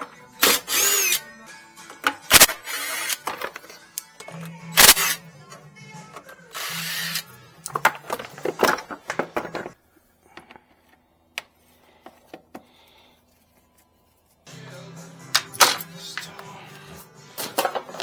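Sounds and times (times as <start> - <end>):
background music: 0.0 - 9.9, 12.7 - 18.0.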